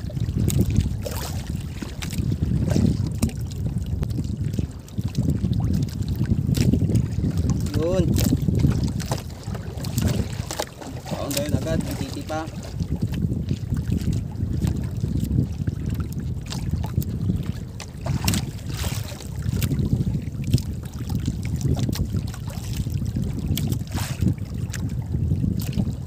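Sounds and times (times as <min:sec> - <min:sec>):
water lapping against hull: 0:00.0 - 0:26.0
wind buffeting microphone: 0:00.0 - 0:26.0.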